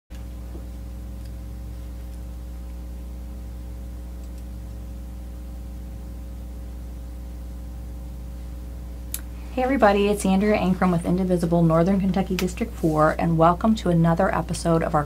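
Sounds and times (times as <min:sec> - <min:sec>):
electrical mains hum: 0:00.1 - 0:15.0.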